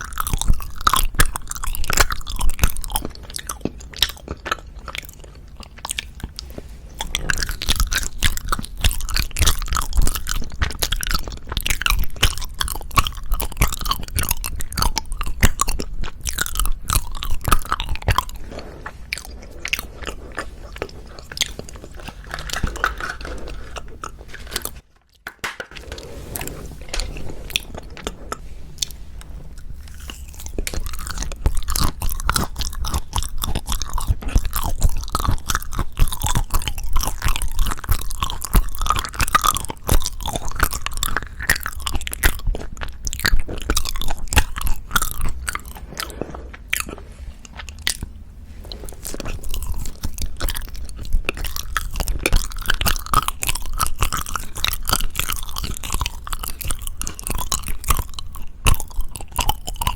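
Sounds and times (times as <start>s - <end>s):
biting and chewing sweets: 0.0s - 59.9s.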